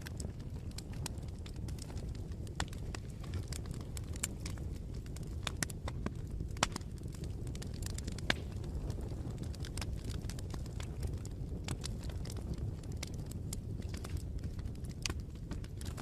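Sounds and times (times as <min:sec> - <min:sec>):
bonfire rumble: 0:00.0 - 0:16.0
fire crackles and pops: 0:00.0 - 0:16.0.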